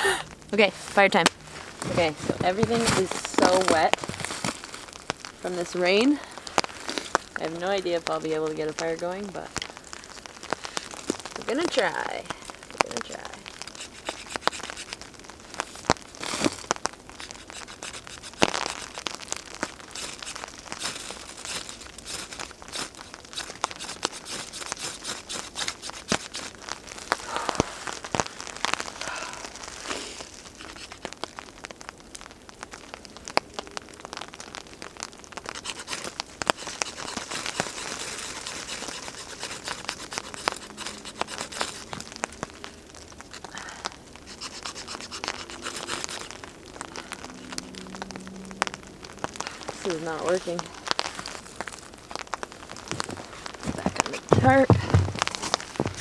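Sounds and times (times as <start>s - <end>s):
kindling crackling and snapping: 0.0s - 56.0s
hands crinkling and tearing tinder: 0.2s - 8.9s, 9.5s - 56.0s.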